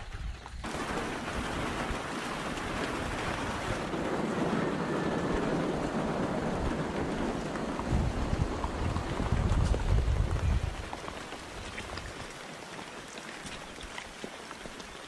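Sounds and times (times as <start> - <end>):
wind buffeting microphone: 0.0 - 12.3
storm wind: 0.0 - 12.4
rain: 0.0 - 15.0.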